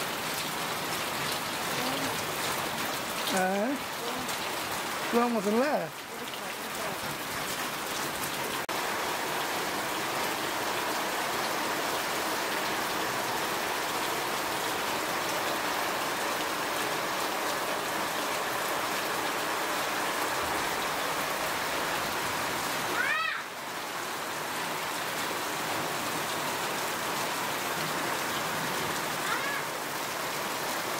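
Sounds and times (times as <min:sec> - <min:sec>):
heavy rain splashing: 0:00.0 - 0:30.9
rain into metal basins: 0:00.0 - 0:30.9.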